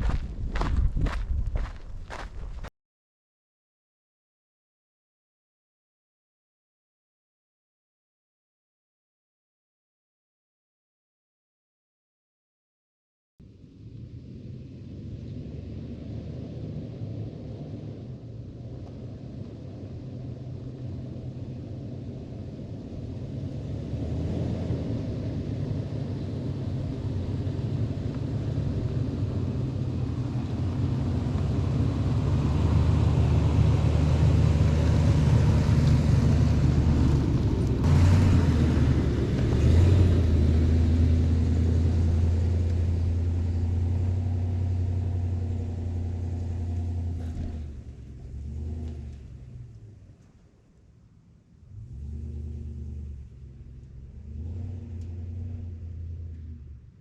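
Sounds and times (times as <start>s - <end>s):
vehicle engine drone: 0.0s - 2.7s, 13.4s - 57.0s.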